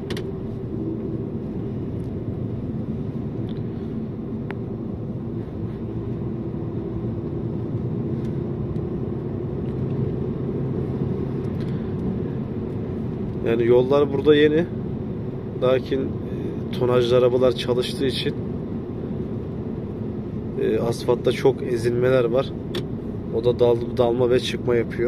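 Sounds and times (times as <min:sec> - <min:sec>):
road noise: 0:00.0 - 0:25.0
truck engine drone: 0:00.0 - 0:25.0.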